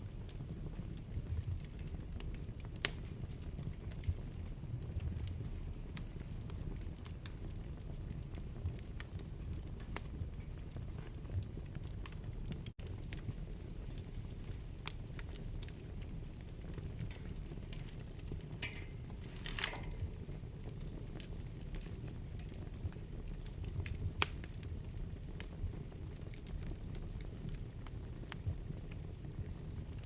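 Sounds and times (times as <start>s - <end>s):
burning logs crackling and popping: 0.0s - 30.0s
low rumble of flames: 0.0s - 30.0s.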